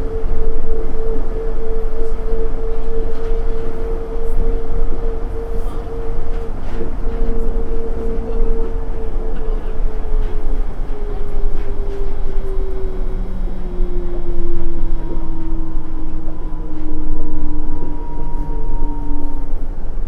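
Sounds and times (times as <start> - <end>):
train rumble with motor whine: 0.0 - 20.0.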